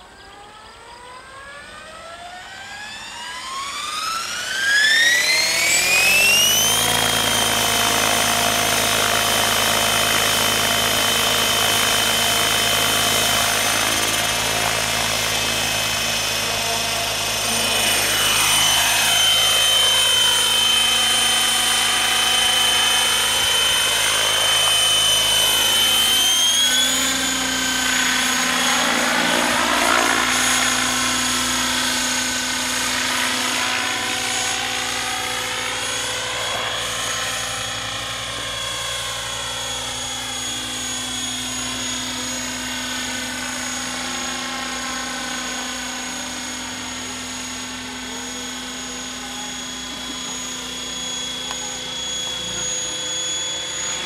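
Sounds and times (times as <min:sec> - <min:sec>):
model helicopter rotor whine: 0:00.0 - 0:54.0.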